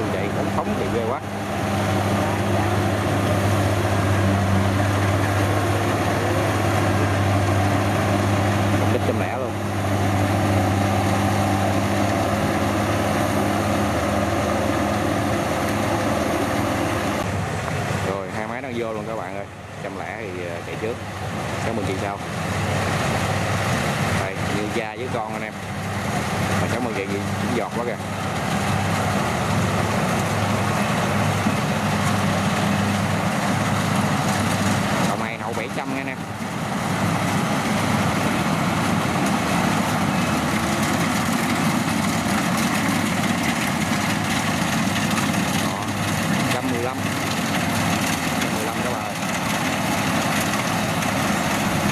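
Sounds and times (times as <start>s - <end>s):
combine harvester engine hum: 0.0s - 51.9s
noisy mechanical wash: 0.0s - 51.9s.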